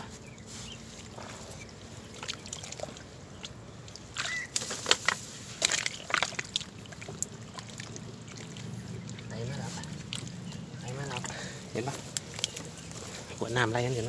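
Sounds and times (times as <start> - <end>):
mud and water squelching: 0.0 - 14.0.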